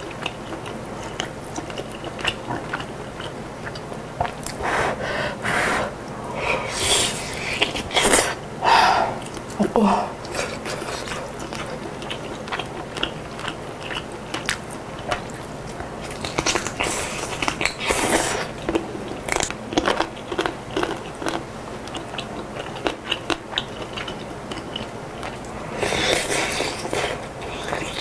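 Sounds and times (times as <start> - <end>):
person chewing soup: 0.0 - 28.0.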